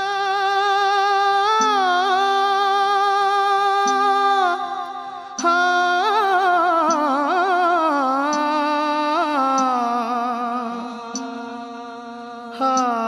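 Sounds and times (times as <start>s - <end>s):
person humming long notes: 0.0s - 13.0s.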